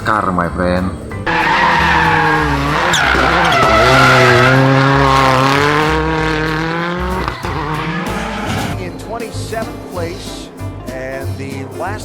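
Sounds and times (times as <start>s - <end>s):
race car engines running hard: 0.0s - 12.0s.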